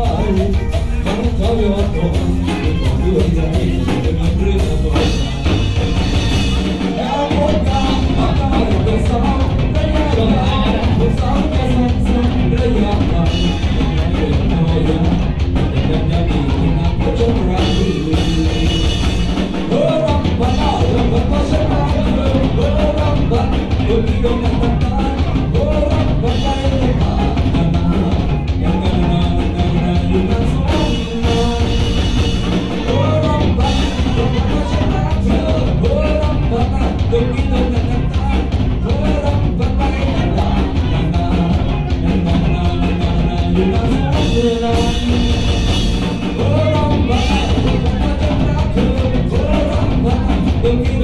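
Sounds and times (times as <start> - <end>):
drum kit: 0.0 - 51.0
electric bass: 0.0 - 51.0
electric guitars: 0.0 - 51.0
person singing: 0.0 - 51.0.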